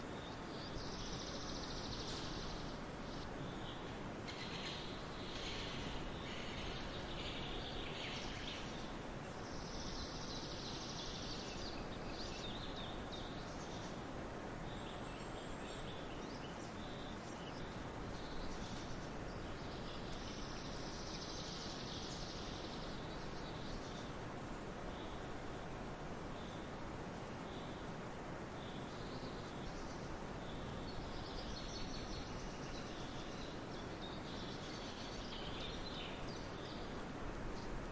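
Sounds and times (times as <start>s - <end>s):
steady noisy background: 0.0s - 37.9s.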